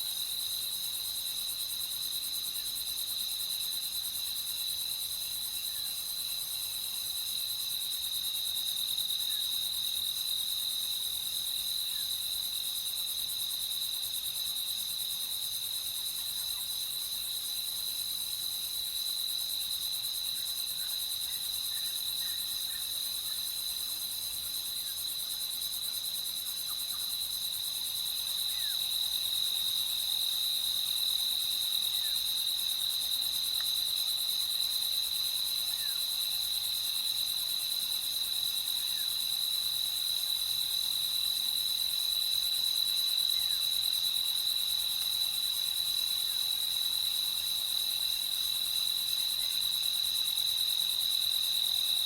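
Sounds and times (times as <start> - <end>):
night insects trilling: 0.1 - 52.0.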